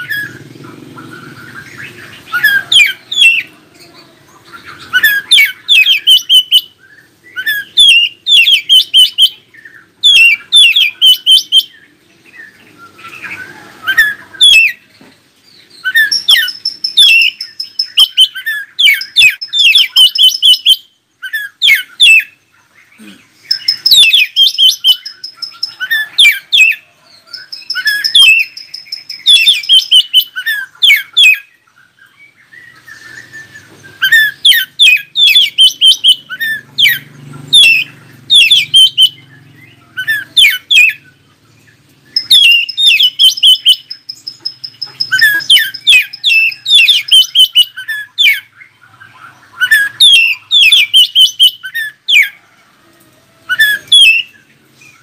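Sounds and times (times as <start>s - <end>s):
bird singing whistled phrases: 4.7s - 14.8s, 15.7s - 41.1s, 42.0s - 52.4s, 53.5s - 54.4s.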